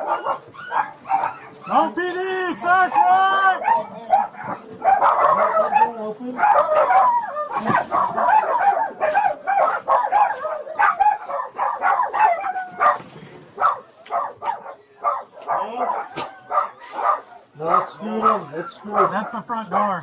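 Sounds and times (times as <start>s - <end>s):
many dogs barking: 0.0s - 20.0s.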